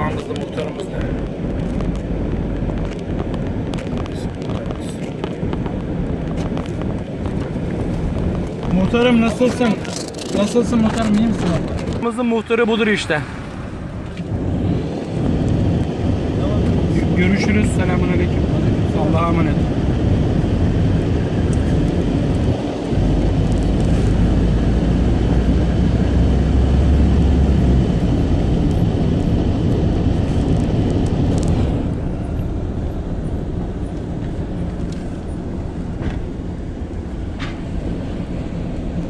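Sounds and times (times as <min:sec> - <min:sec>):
car driving over cobblestones: 0:00.0 - 0:39.0.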